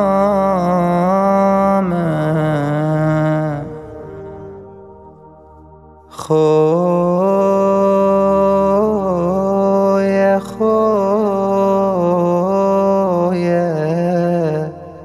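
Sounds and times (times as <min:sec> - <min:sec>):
man singing a slow lament: 0:00.0 - 0:05.0, 0:06.1 - 0:15.0.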